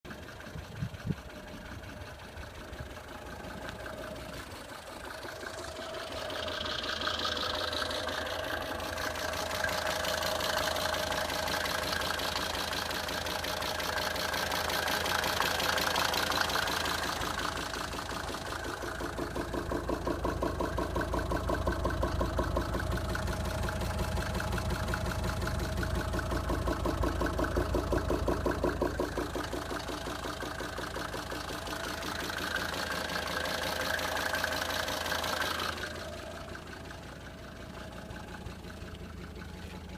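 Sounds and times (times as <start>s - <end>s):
diesel engine idling with knock: 0.0s - 39.9s.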